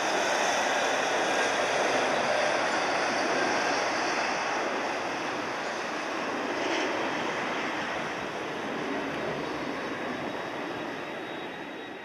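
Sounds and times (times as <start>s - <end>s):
jet engines taxiing: 0.0s - 12.0s
strong wind: 0.0s - 12.0s.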